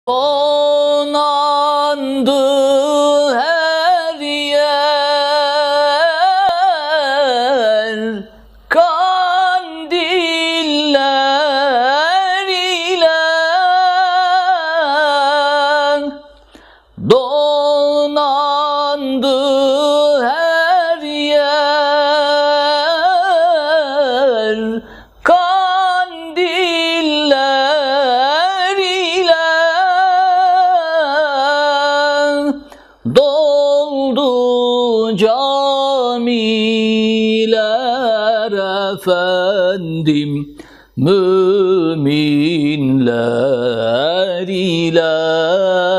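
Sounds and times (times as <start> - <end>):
man singing a hymn unaccompanied: 0.1 - 45.9.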